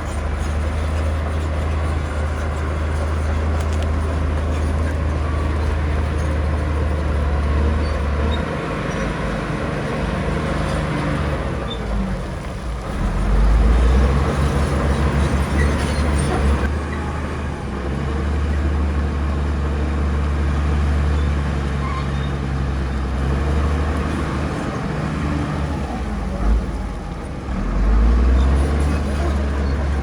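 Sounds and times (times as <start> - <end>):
heavy diesel engines rumbling: 0.0 - 30.0.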